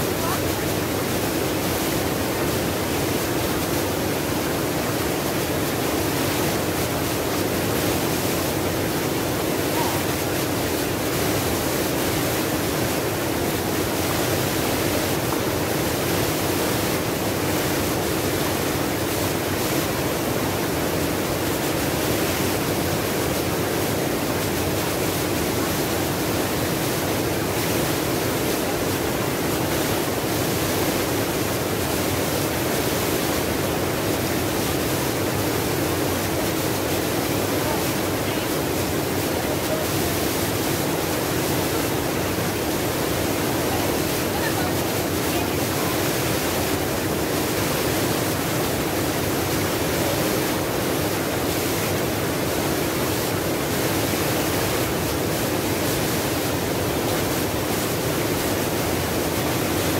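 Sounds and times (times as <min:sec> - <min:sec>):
waterfall rushing into rocky pool: 0:00.0 - 0:59.9.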